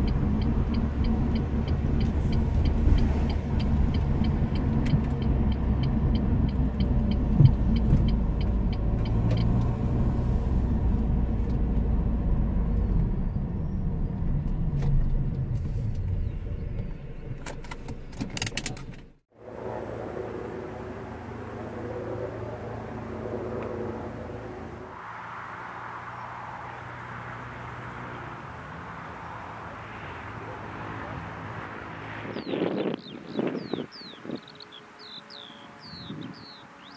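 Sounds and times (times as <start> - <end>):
car road noise rumble: 0.0 - 36.9
outdoor background noise: 0.0 - 36.9.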